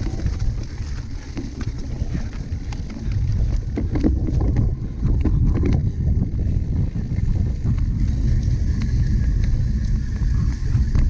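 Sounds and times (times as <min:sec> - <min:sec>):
bike clicking and rattling: 0:00.0 - 0:11.0
wind buffeting microphone: 0:00.0 - 0:11.0.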